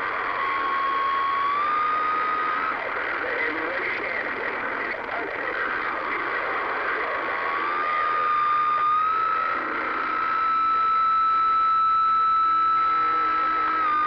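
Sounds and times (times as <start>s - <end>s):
radio static: 0.0s - 11.4s
radio whistle: 0.0s - 14.0s.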